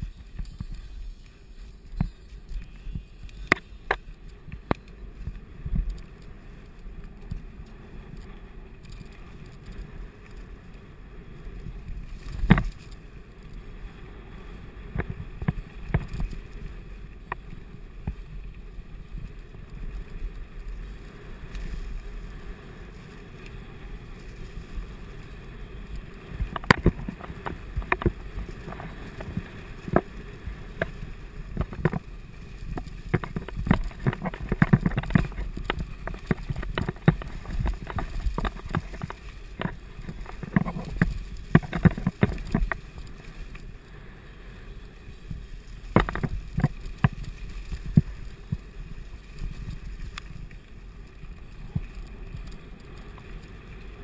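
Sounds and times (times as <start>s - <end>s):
bike knocking and rattling: 0.0s - 10.8s, 11.6s - 13.6s, 14.9s - 43.7s, 45.2s - 50.9s
bike tyres rumbling on dirt: 0.0s - 54.0s
wind: 0.0s - 54.0s.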